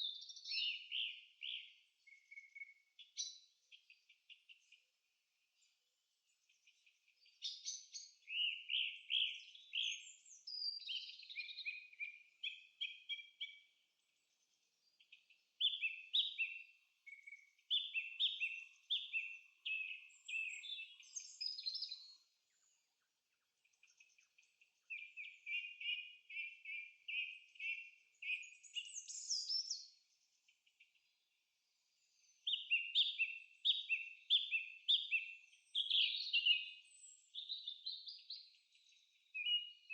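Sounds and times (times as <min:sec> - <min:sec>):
birds singing repeated high notes: 0:00.0 - 0:05.0, 0:05.6 - 0:22.8, 0:23.6 - 0:39.9.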